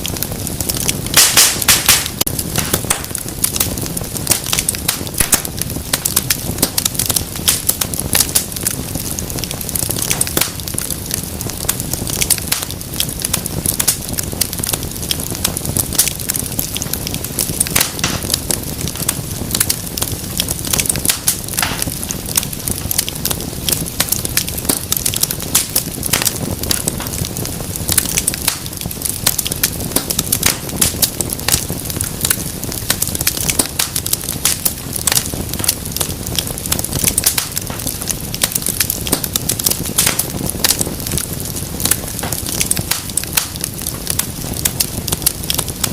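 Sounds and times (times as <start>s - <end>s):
low rush of flame: 0.0s - 45.9s
wood fire crackling: 0.0s - 45.9s.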